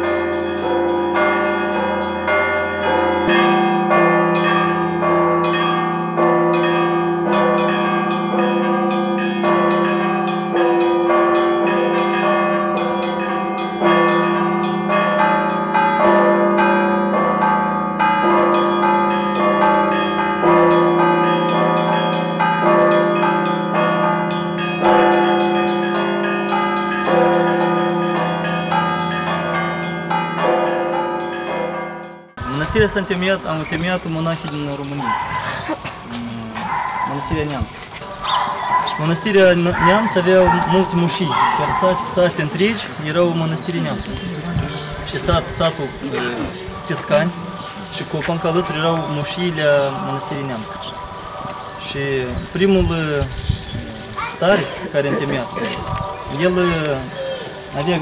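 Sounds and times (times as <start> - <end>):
church bells pealing: 0.0 - 58.0.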